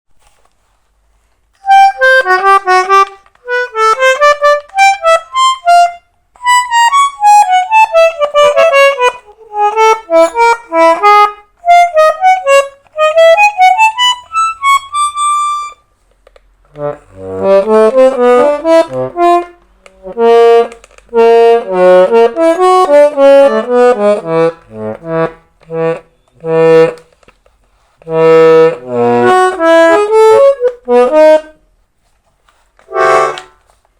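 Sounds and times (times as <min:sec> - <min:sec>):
concertina playing: 0:01.6 - 0:15.8, 0:16.7 - 0:27.0, 0:28.0 - 0:31.7, 0:32.8 - 0:33.7.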